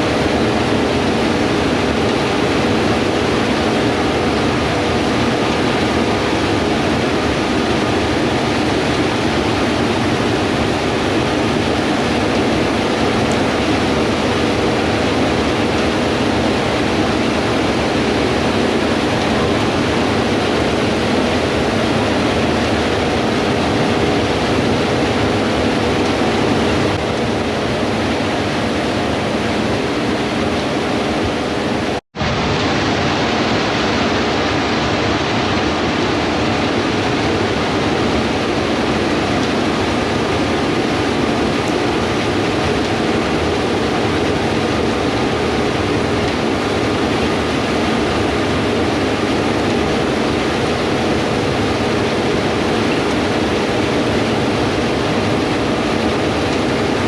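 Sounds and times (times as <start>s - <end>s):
combine harvester running: 0.0s - 57.0s
faint engine drone: 0.0s - 57.0s.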